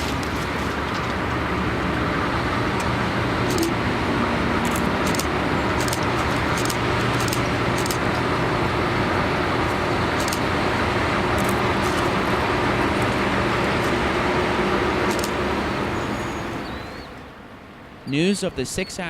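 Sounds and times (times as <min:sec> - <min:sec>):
diesel locomotives idling: 0:00.0 - 0:19.0.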